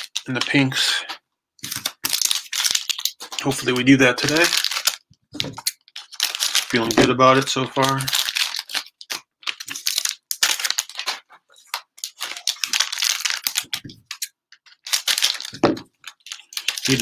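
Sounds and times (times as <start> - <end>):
cellophane packs crinkling: 0.0 - 17.0.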